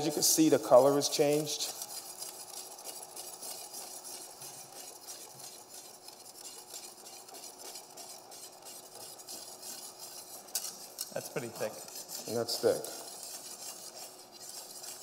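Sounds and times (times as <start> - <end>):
whisk stirring in metal pan: 0.0 - 15.0.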